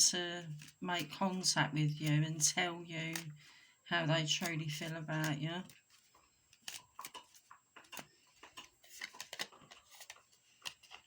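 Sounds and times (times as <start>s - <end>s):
tarot cards tapping and flicking: 0.6s - 3.4s, 4.3s - 11.0s.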